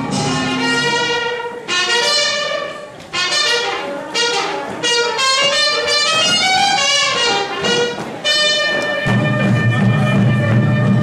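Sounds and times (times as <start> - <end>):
big band music with brass: 0.0 - 11.0.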